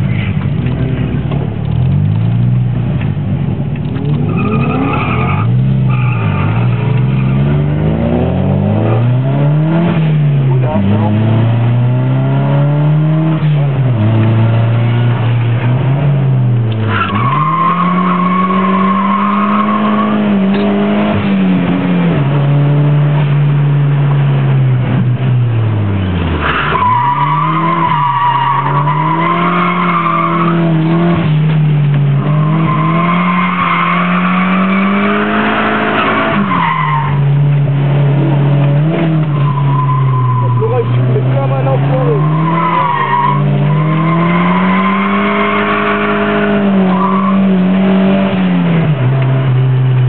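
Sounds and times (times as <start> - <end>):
car engine revving high: 3.9 - 50.0.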